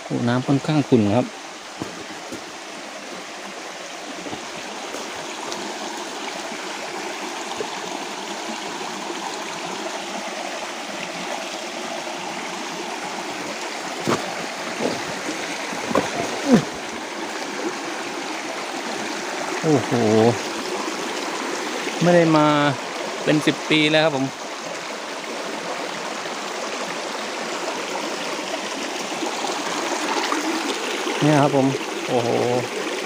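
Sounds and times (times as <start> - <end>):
stream flowing over stones: 0.0 - 33.0.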